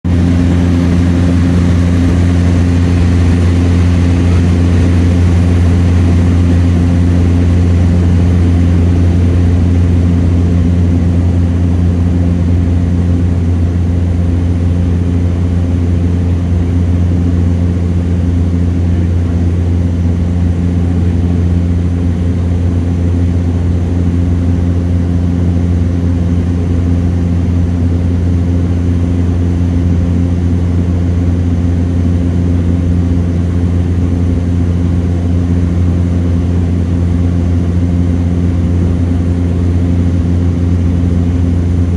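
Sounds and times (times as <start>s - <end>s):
propeller plane engine hum in cabin: 0.0s - 41.9s.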